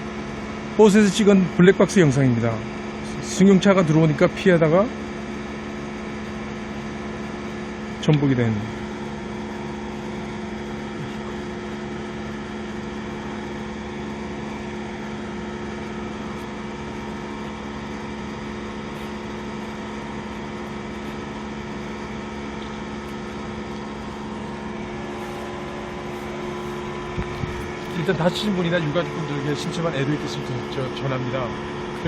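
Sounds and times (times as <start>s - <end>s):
engine idling hum: 0.0s - 32.0s.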